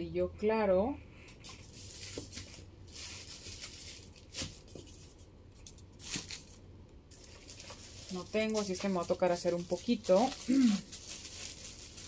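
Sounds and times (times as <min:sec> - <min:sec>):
hands rustling with materials: 0:01.3 - 0:12.0.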